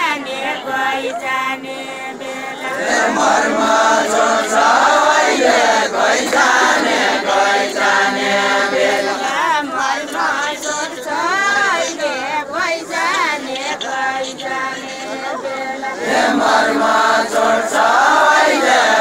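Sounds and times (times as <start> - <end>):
group singing folk song in chorus: 0.0 - 19.0.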